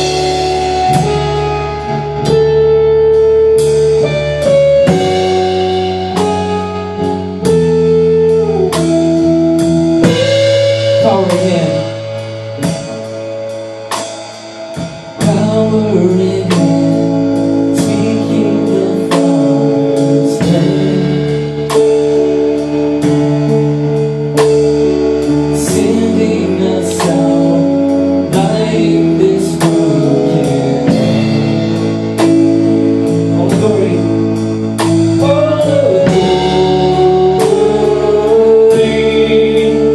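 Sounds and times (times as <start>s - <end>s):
drum kit beat: 0.0s - 39.9s
guitar: 0.0s - 39.9s
worship band music: 0.0s - 39.9s.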